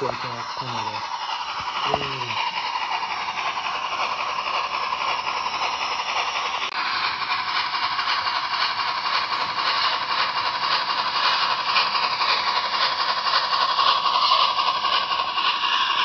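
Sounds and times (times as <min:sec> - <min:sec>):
model locomotive steam chuff and hiss: 0:00.0 - 0:16.0.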